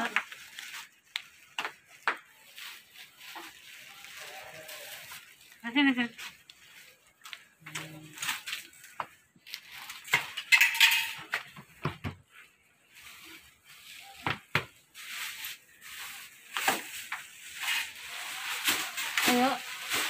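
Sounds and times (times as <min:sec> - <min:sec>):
rustling: 0:00.0 - 0:11.4, 0:12.3 - 0:20.0.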